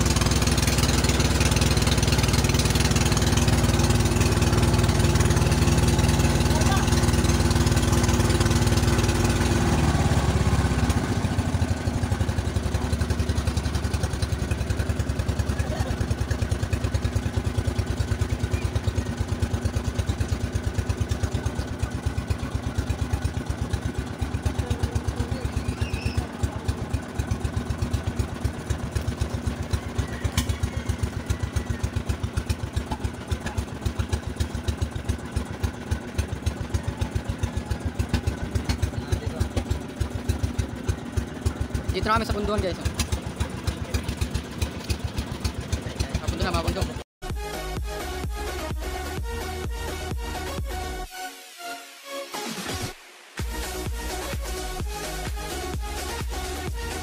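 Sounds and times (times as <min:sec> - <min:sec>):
small boat engine running: 0:00.0 - 0:51.1, 0:52.6 - 0:57.0.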